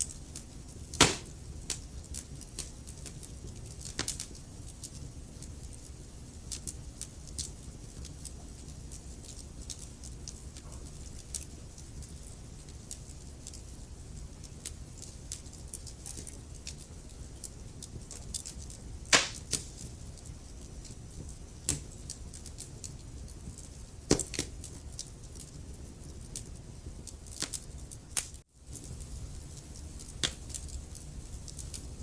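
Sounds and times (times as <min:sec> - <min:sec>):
fire popping: 0:00.0 - 0:32.0
low rumble of flames: 0:00.0 - 0:32.0
wood fire crackling: 0:00.0 - 0:32.0.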